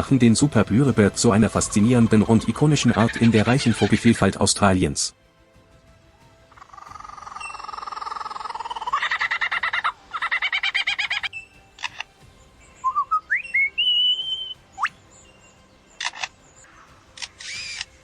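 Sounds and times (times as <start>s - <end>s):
lyrebird singing: 0.0s - 4.2s, 6.5s - 18.0s.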